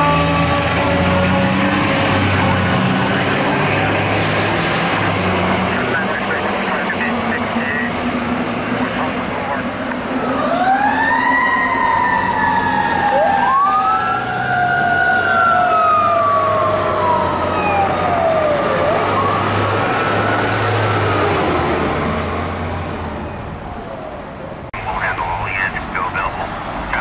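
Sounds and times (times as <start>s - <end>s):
fire engine siren wailing: 0.0s - 27.0s.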